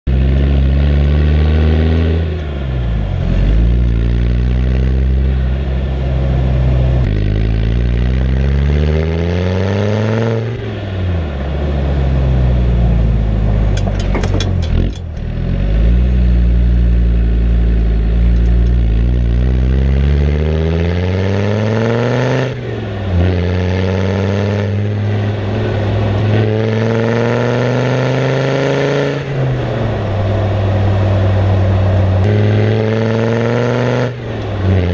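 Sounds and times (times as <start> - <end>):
diesel engine accelerating: 0.0 - 34.9.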